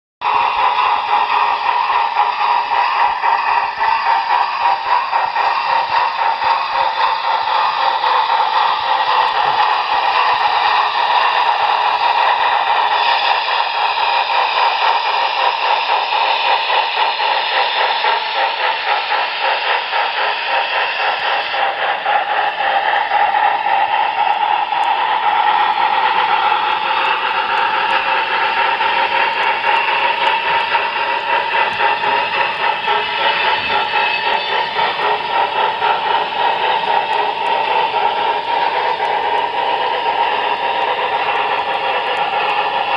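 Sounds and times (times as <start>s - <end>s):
steam chuffing through tinny speaker: 0.2s - 42.9s.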